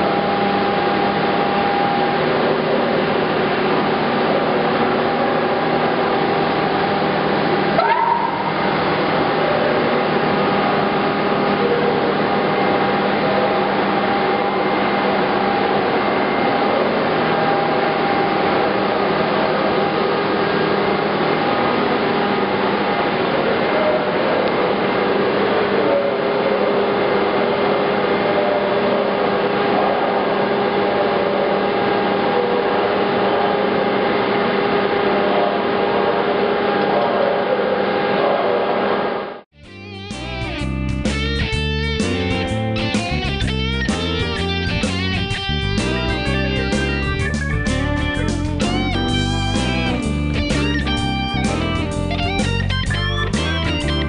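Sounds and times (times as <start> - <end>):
grinder machine humming: 0.0 - 54.0.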